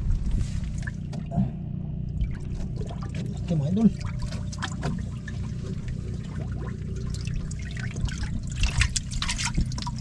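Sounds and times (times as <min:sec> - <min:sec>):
steady low hum: 0:00.0 - 0:10.0
water splashing and sloshing: 0:00.0 - 0:10.0.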